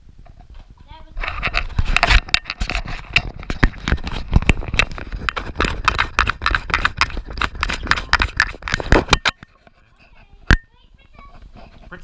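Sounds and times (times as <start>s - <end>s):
camera knocking and rattling: 0.2s - 11.9s.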